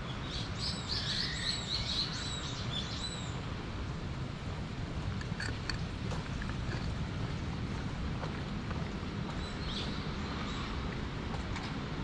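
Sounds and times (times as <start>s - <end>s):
low outdoor rumble: 2.0s - 12.0s.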